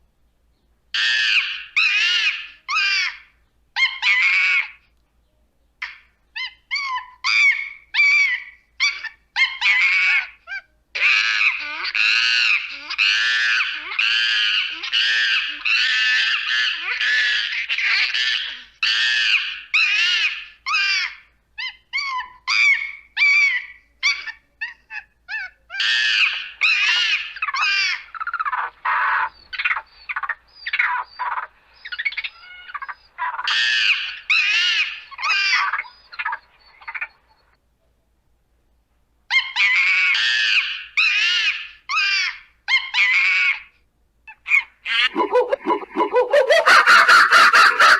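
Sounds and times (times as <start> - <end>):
monkeys screaming: 1.0 - 4.8, 5.8 - 37.2, 39.3 - 43.7, 44.3 - 47.9.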